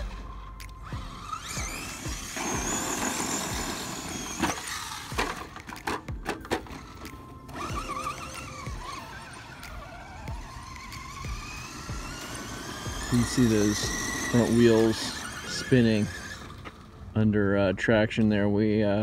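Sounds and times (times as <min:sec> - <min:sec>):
electric motor whining: 0:00.0 - 0:17.2.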